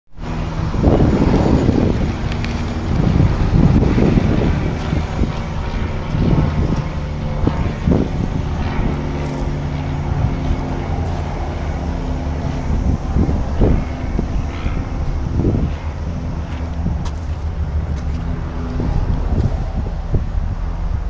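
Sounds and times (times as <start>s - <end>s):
wind on microphone: 0.2s - 21.0s.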